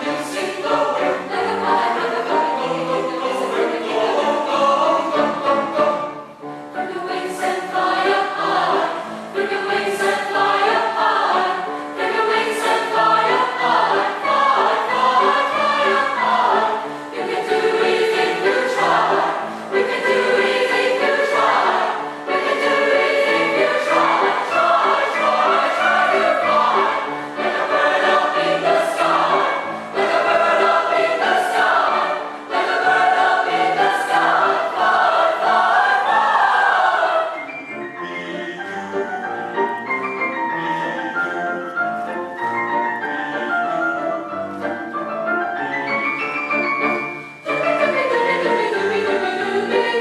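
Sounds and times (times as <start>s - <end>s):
choir singing: 0.0s - 50.0s.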